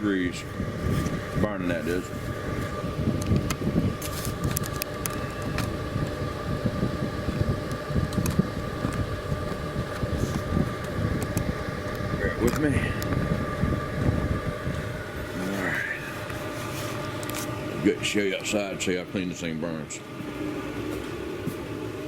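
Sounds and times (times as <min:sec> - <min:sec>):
roaring fire draft: 0:00.0 - 0:22.0.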